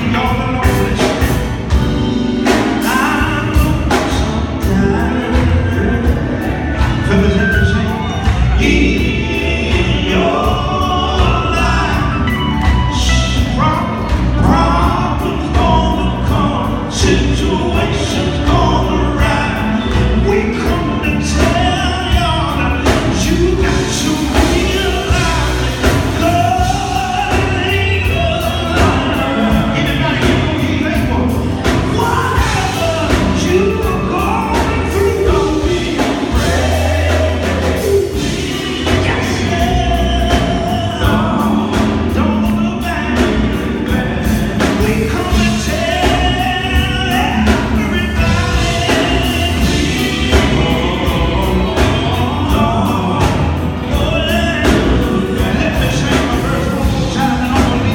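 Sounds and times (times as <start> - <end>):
backing voices singing: 0.0 - 57.9
drums: 0.0 - 57.9
electric guitar: 0.0 - 57.9
man singing into a microphone: 0.0 - 57.9.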